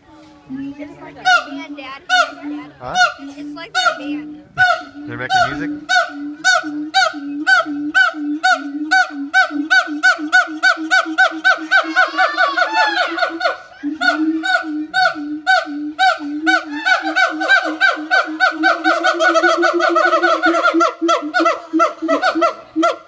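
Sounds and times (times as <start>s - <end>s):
gibbon hooting: 0.5s - 23.0s.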